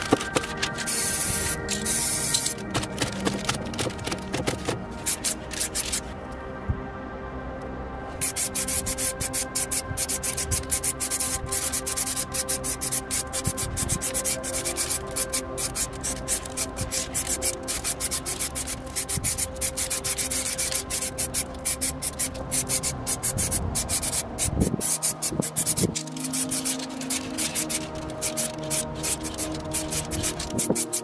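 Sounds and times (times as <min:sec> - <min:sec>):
spray paint cans hissing: 0:00.0 - 0:06.1, 0:08.2 - 0:31.0
ambient music: 0:00.0 - 0:31.0.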